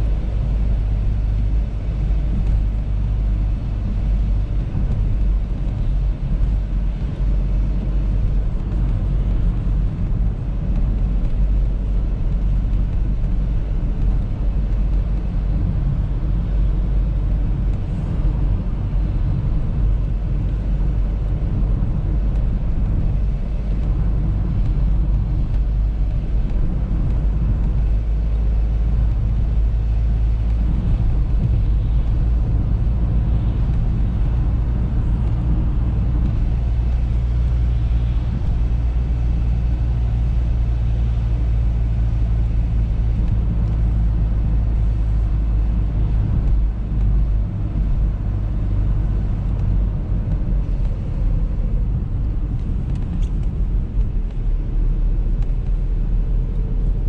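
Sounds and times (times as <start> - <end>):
car driving road rumble: 0.0 - 57.0.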